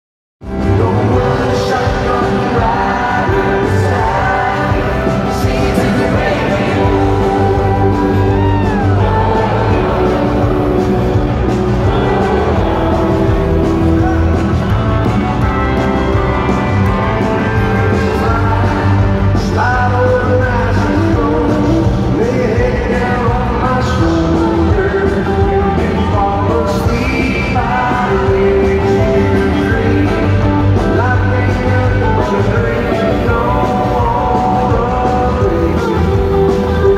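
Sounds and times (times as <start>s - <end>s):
live country-rock band: 0.4s - 36.9s
person singing: 0.5s - 36.9s.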